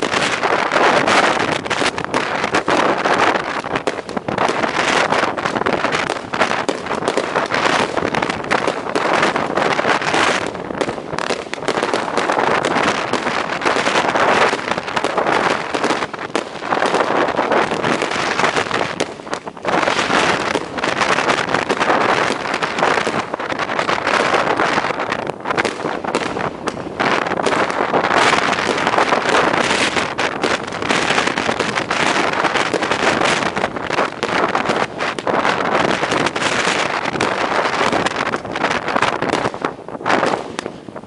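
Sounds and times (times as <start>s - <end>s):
strong wind on microphone: 0.0s - 41.0s.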